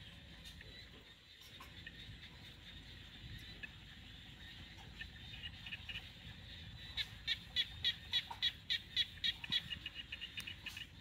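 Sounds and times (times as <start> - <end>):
small animal chirping: 0.4 - 11.0.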